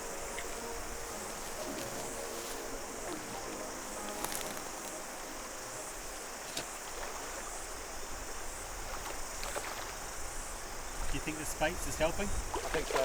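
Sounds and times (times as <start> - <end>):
cicada chorus: 0.0 - 13.0
stream running over stones: 0.0 - 13.0.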